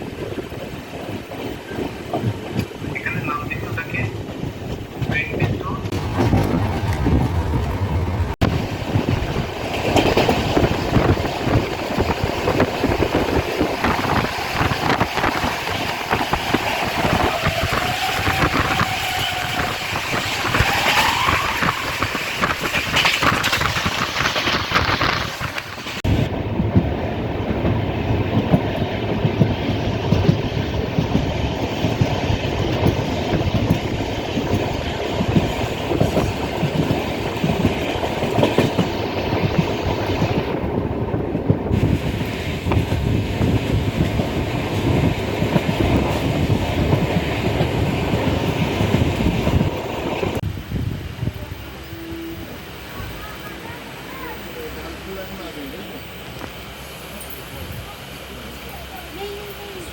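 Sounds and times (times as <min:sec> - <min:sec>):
train wheels clattering over rail joints: 0:00.0 - 0:26.0, 0:26.6 - 0:50.4
train rumble: 0:00.0 - 0:59.9.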